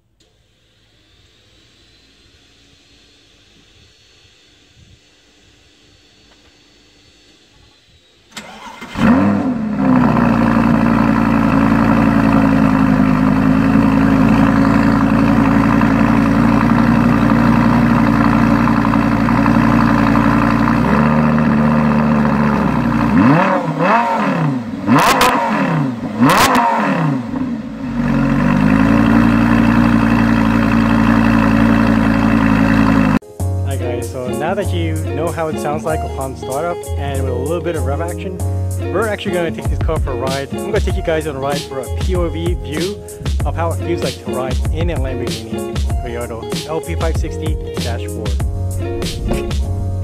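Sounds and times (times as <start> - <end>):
sports car engine idling and revving: 0.0 - 33.2, 38.0 - 50.0.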